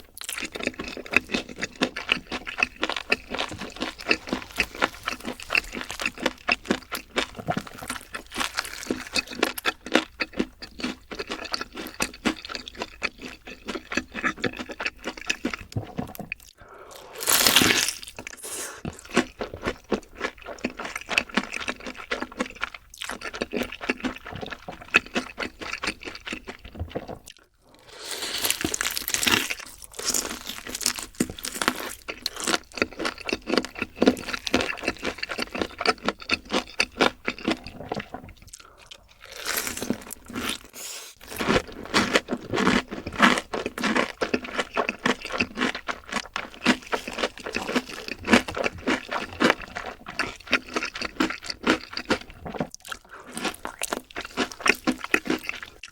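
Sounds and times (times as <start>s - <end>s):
chewing crunchy fried food: 0.0s - 55.9s.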